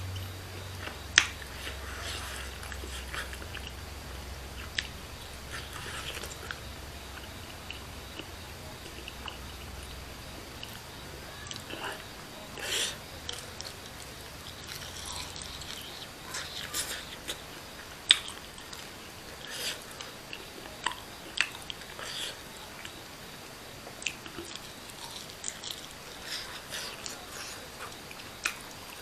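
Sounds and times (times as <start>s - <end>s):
chewing with mouth smacks: 0.1s - 29.0s.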